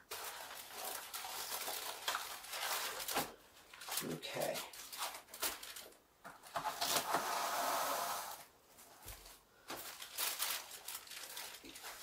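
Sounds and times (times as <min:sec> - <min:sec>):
plastic film crinkling: 0:00.0 - 0:07.2, 0:08.7 - 0:12.0.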